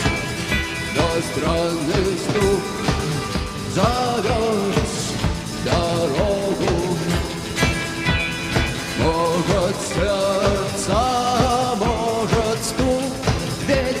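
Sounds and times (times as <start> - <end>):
rock band music: 0.0 - 14.0
steady drum beat: 0.0 - 14.0.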